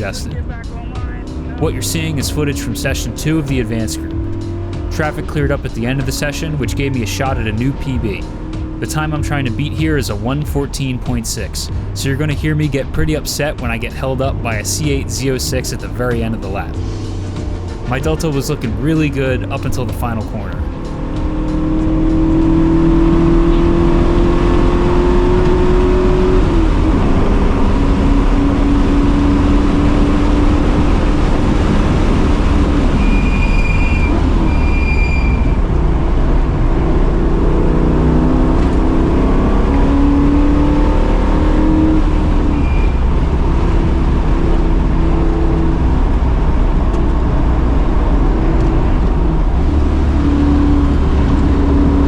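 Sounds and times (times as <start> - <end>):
car engine at full throttle: 0.0 - 52.0
road and wind noise: 0.0 - 52.0.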